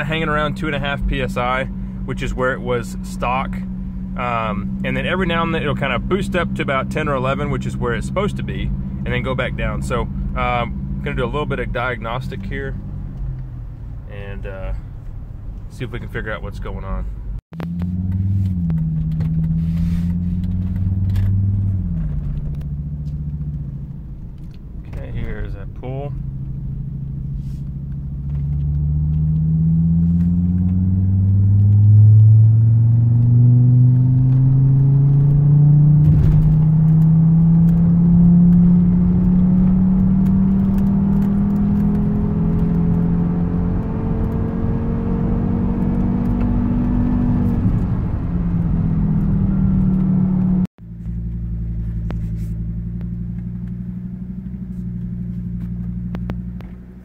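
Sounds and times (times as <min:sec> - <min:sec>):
car engine accelerating: 0:00.0 - 0:57.0
quieter engine drone: 0:00.0 - 0:57.0.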